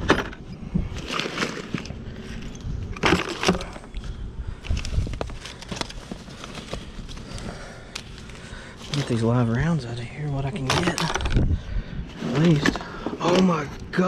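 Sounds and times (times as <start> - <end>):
rummaging through trash: 0.0 - 13.8.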